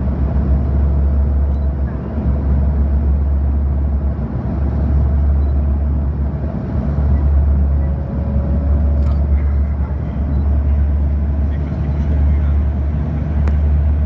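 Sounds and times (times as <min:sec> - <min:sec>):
low propeller hum: 0:00.0 - 0:14.0.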